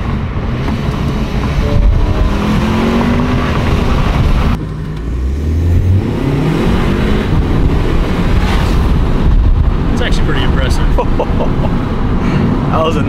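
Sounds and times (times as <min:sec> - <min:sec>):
turbocharged car engine accelerating: 0:00.0 - 0:13.0.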